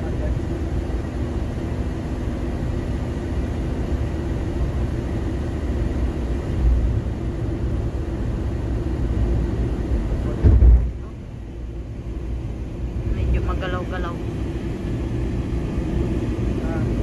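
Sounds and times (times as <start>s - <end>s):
road and engine noise in van: 0.0s - 17.0s.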